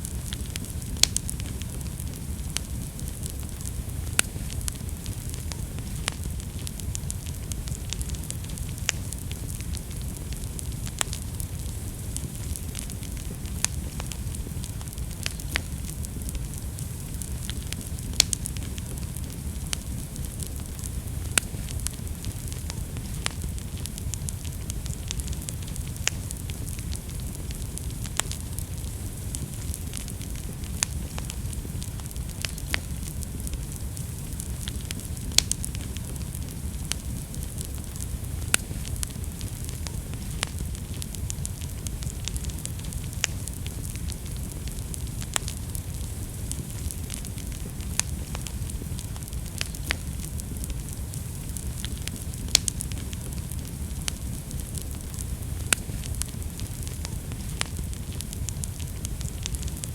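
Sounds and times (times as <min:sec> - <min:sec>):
burning wood crackling and popping: 0:00.0 - 0:59.9
low rush of flames: 0:00.0 - 0:59.9.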